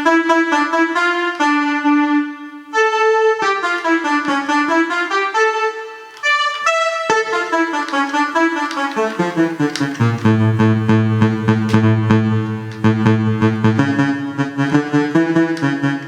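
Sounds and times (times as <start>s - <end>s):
electronic wind instrument melody: 0.0s - 16.0s.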